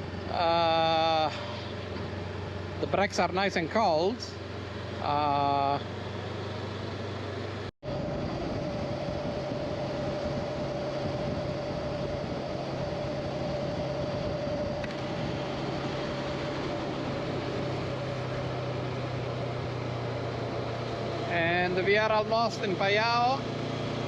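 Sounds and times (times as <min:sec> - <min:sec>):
motorcycle engine cruising: 0:00.0 - 0:24.0
wind and road noise: 0:00.0 - 0:24.0.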